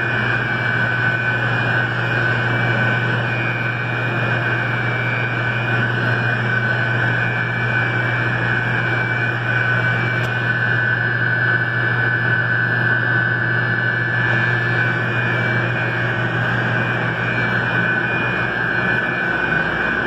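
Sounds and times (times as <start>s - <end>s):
chiller machinery hum: 0.0s - 20.0s
high machine whine: 0.0s - 20.0s.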